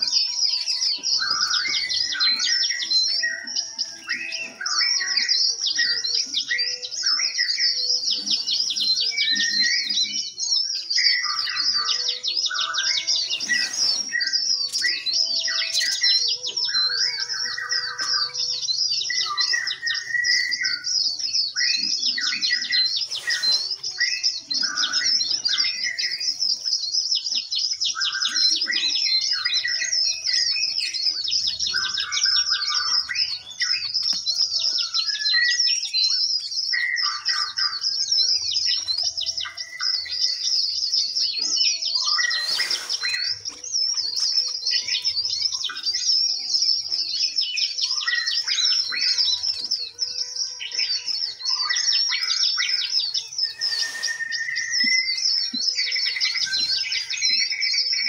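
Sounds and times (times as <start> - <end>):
low whistled bird notes: 0.0 - 58.0
small birds chirping and trilling: 0.0 - 58.0.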